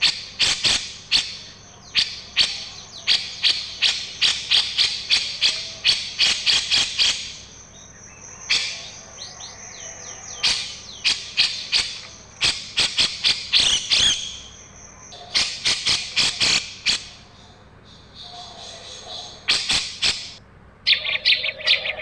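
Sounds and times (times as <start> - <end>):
songbird sharp chirps: 0.0 - 20.2.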